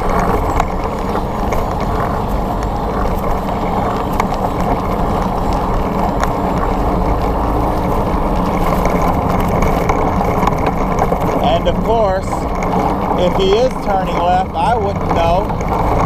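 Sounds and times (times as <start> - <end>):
motorcycle engine running: 0.0 - 16.0
traffic noise: 0.0 - 16.0.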